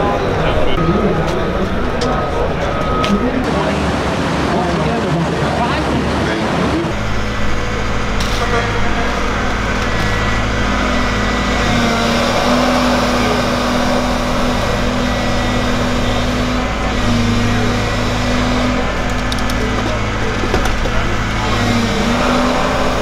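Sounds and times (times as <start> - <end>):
excavator engine and hydraulics: 0.0 - 23.0.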